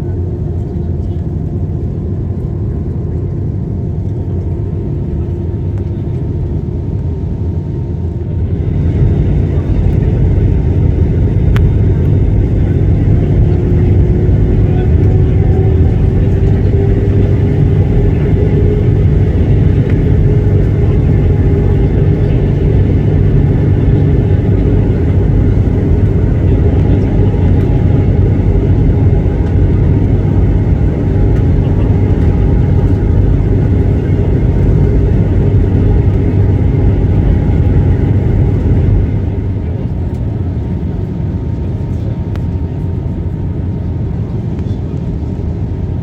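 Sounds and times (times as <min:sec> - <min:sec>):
faint whine: 0:00.0 - 0:46.0
jet engine cabin roar: 0:00.0 - 0:46.0.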